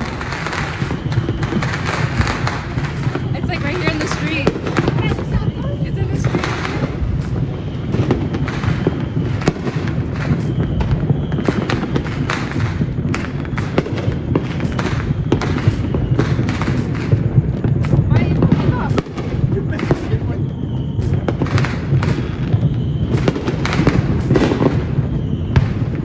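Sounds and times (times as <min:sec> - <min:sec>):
fireworks bangs and crackles: 0:00.0 - 0:26.0
low rumble: 0:00.0 - 0:26.0.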